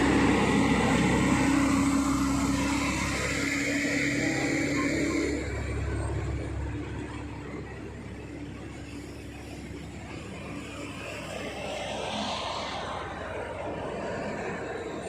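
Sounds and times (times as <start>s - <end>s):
heavy truck engine rumble: 0.0s - 15.0s
vehicle approaching: 0.0s - 15.0s.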